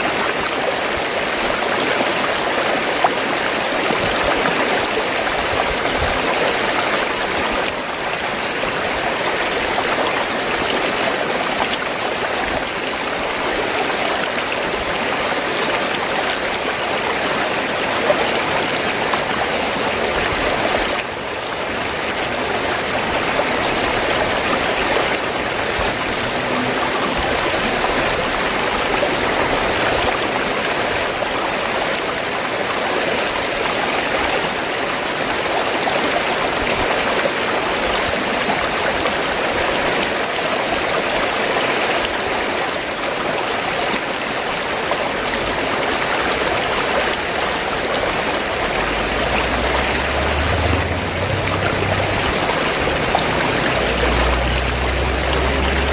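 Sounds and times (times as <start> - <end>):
stream water gurgling and rushing: 0.0 - 55.9.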